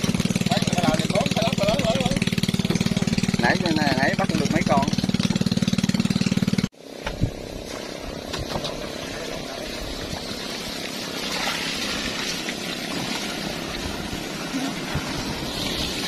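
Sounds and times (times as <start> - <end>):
water gushing from a hose: 0.0 - 6.7, 7.3 - 16.0
engine running: 0.0 - 16.0.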